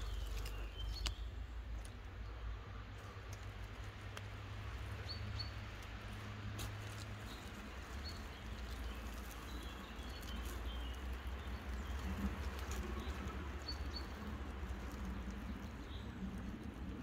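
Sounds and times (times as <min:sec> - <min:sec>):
rustling and crackling leaves: 0:00.0 - 0:17.0
small birds chirping: 0:00.0 - 0:17.0.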